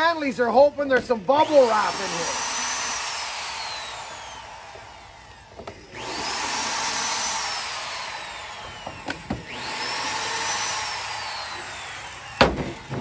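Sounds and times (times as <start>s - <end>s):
electric drill whining: 1.0s - 13.0s.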